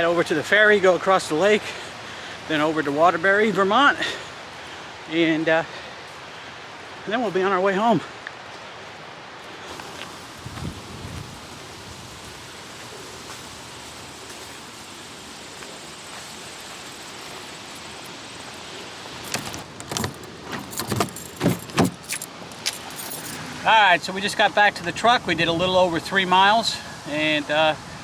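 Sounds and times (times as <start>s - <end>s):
distant traffic: 0.0s - 28.0s
wind hiss: 0.0s - 28.0s.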